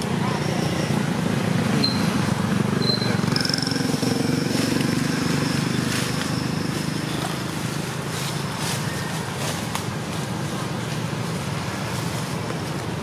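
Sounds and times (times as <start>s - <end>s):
engine running low rumble: 0.0s - 13.0s.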